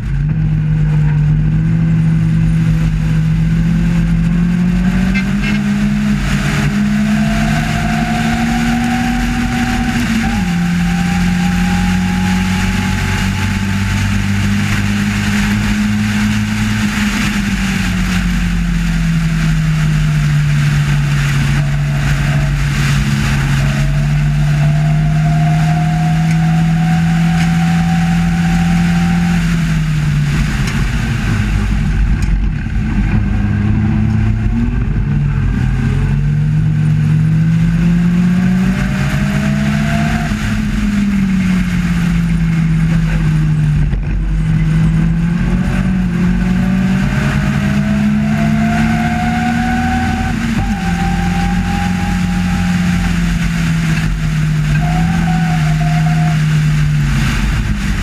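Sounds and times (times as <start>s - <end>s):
race car engine: 0.0s - 58.0s
wind and road noise: 0.0s - 58.0s.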